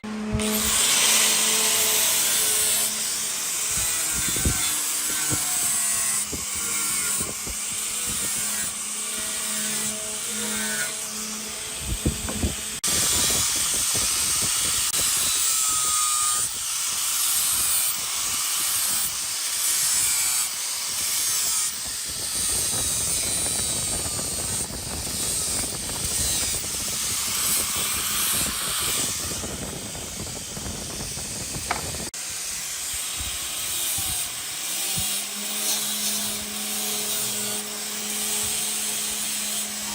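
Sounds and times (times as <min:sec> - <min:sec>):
power tools working wood: 0:00.0 - 0:39.9.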